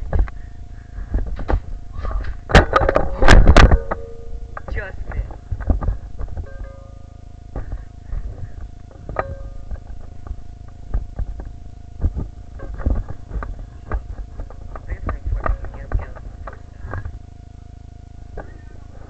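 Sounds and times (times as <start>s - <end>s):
low rumbles: 0.0s - 19.0s.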